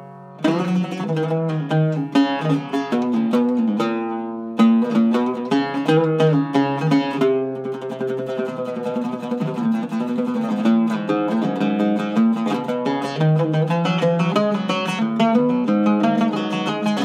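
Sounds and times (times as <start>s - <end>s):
oud plucked melody: 0.0s - 17.0s.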